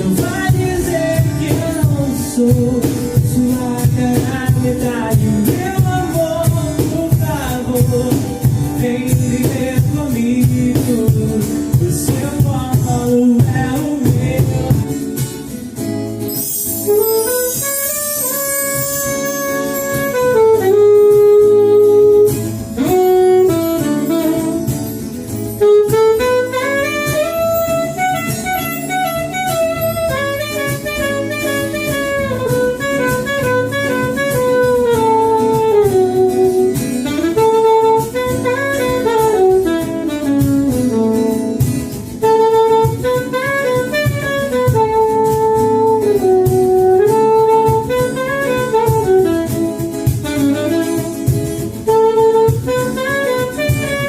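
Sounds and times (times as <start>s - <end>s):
guitar accompaniment: 0.0s - 54.0s
saxophone melody: 0.0s - 54.0s.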